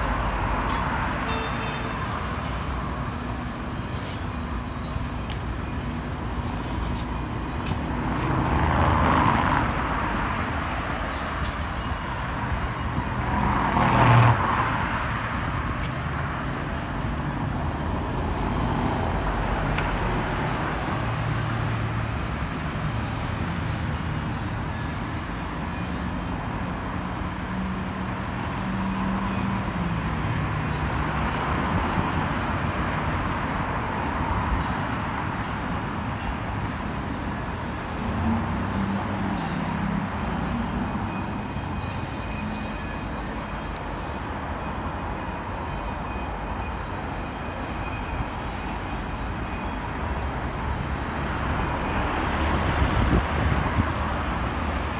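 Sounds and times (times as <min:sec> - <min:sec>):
road traffic rush: 0:00.0 - 0:54.9
vehicles passing close: 0:00.0 - 0:54.9.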